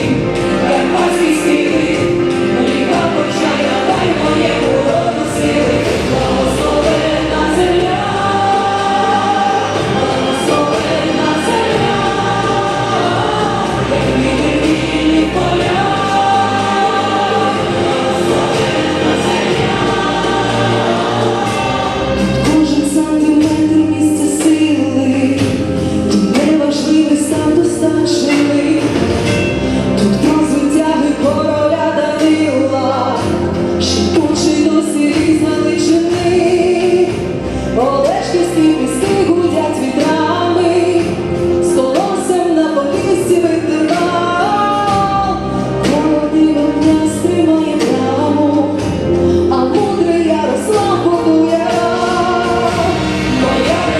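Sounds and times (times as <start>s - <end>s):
choir-like singing with accompaniment: 0.0s - 53.9s.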